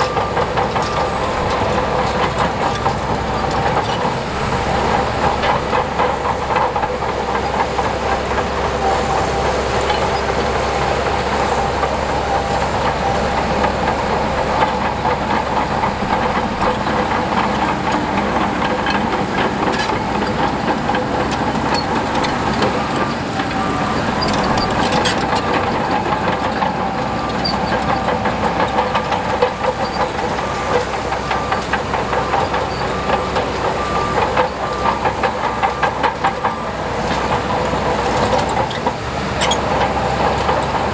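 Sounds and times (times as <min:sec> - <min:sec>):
diesel machinery engine drone: 0:00.0 - 0:40.9.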